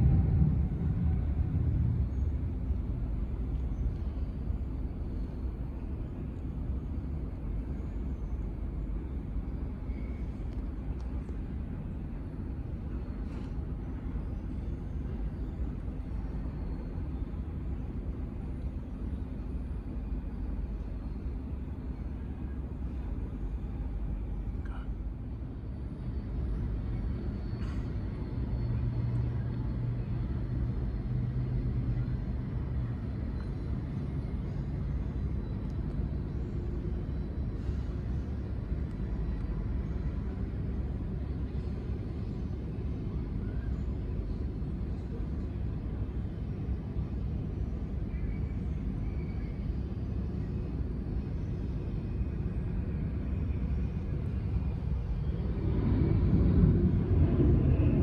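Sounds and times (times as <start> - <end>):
distant vehicle engines rumbling: 0.0 - 58.0
low hum: 0.0 - 58.0.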